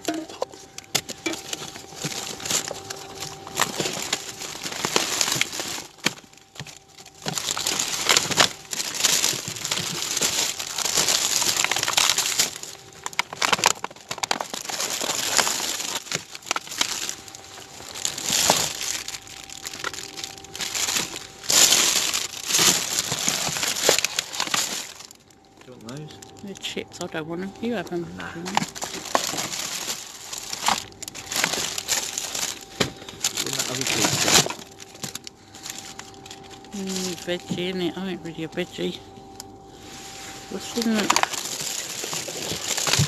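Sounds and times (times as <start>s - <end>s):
paper and plastic rustling: 0.0s - 43.0s.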